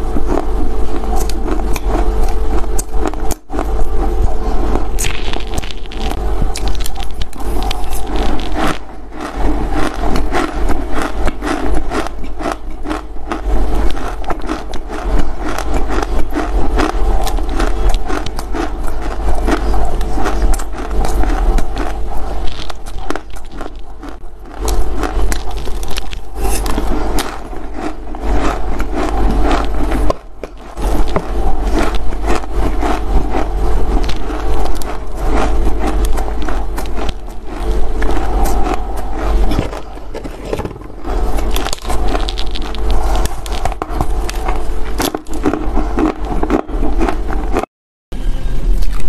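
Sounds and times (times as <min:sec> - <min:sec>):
crunching and chewing clay: 0:00.0 - 0:47.7
steady low hum: 0:00.0 - 0:49.0.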